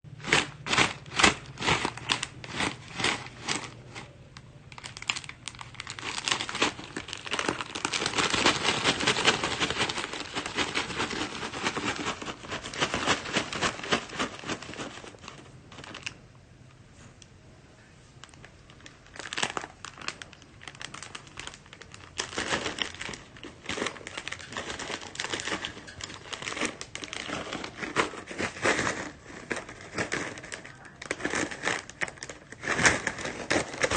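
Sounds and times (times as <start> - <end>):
plastic snack packet crinkling: 0.1 - 16.4, 18.2 - 33.9.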